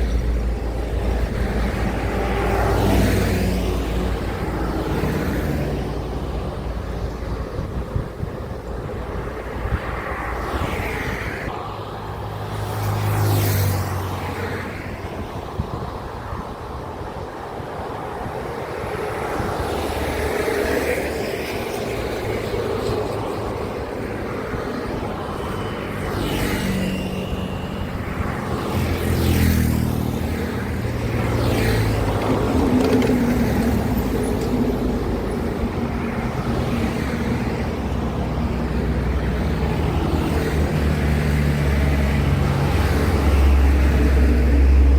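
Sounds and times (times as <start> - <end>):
trucks passing close by: 0.0 - 44.9.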